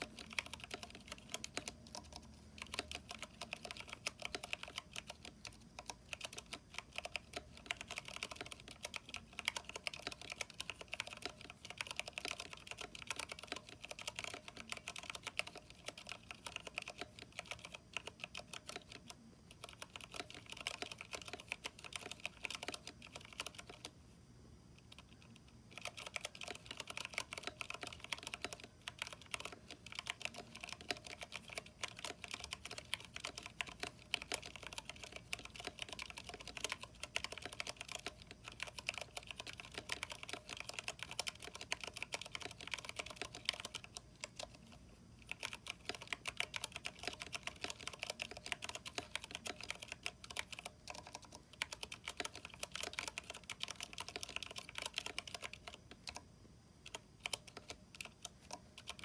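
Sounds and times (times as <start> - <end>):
mechanical keyboard typing: 0.0 - 23.9, 24.8 - 59.0.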